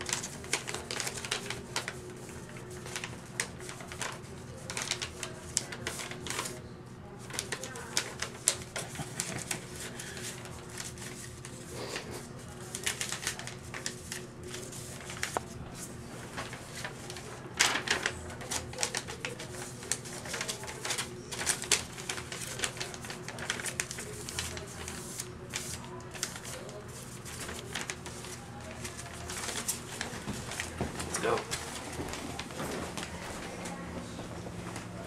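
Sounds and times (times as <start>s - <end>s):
paper crinkling and creasing: 0.0s - 6.6s, 7.2s - 33.8s.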